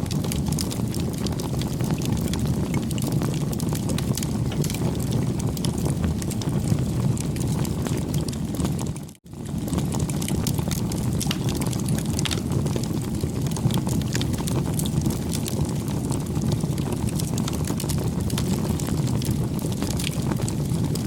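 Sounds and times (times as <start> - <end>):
campfire flames rushing: 0.0 - 21.0
fire crackling and popping: 0.0 - 21.0.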